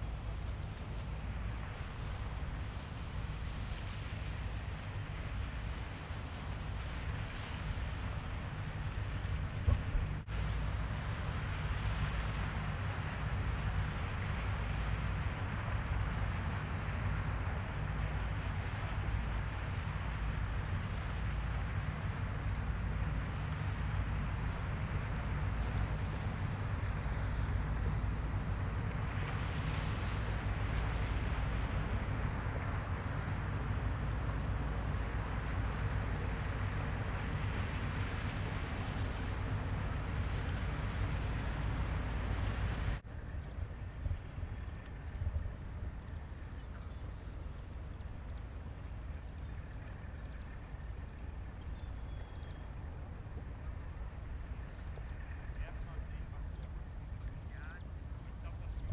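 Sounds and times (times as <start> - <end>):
low drone with wind-like rush: 0.0 - 58.9
ship engines rumbling: 0.0 - 58.9.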